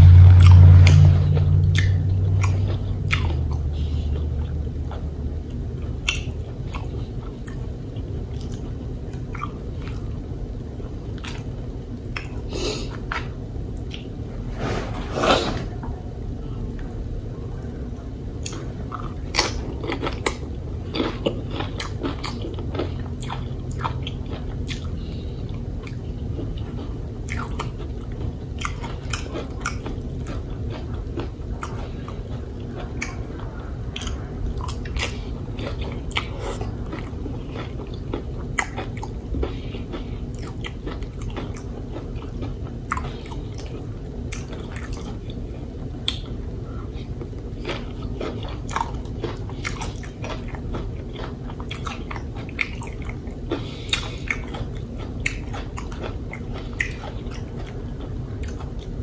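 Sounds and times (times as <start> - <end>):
person chewing crunchy food: 0.0 - 10.3, 18.4 - 59.0.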